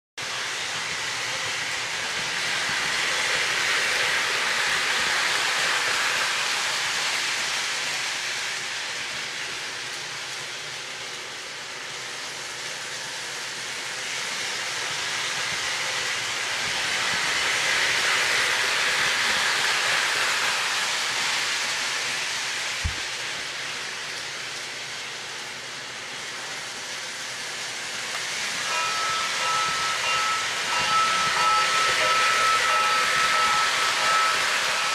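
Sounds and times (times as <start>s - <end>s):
model train running on track: 0.2s - 34.9s.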